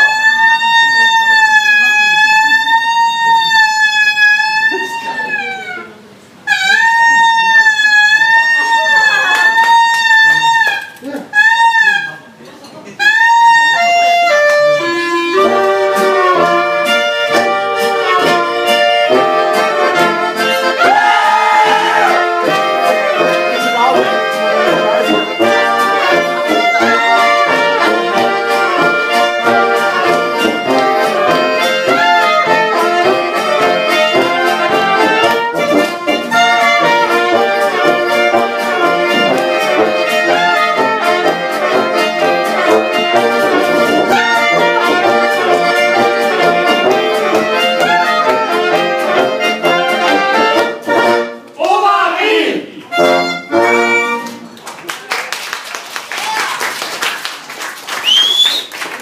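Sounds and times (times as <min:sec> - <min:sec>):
upbeat folk band music: 0:00.0 - 0:52.0, 0:52.8 - 0:55.4.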